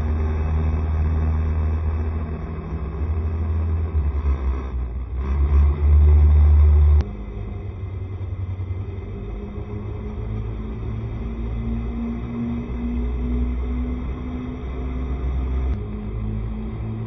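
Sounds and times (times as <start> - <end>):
heavy low rumble: 0.0 - 17.0
scooter engine and road noise: 0.0 - 17.0.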